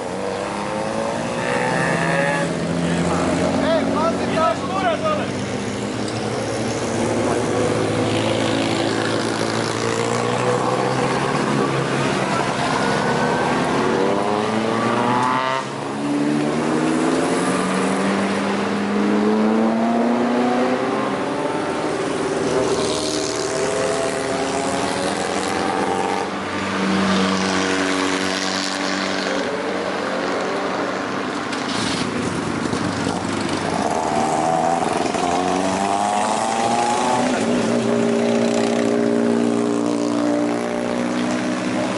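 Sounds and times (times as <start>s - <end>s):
race car engines passing: 0.0s - 41.9s.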